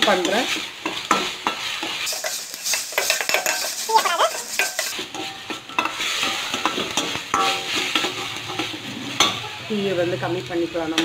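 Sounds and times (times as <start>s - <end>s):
metal ladle scraping a pan: 0.0s - 10.0s
paste sizzling in oil: 0.0s - 11.0s.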